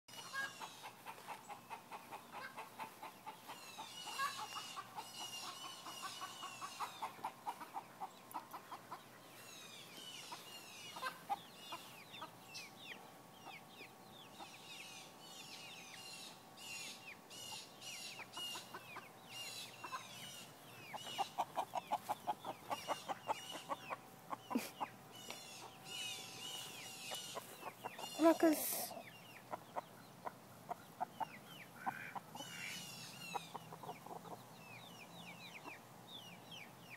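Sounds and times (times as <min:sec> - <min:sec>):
chickens clucking: 0:00.1 - 0:36.9
small birds chirping: 0:00.1 - 0:36.9.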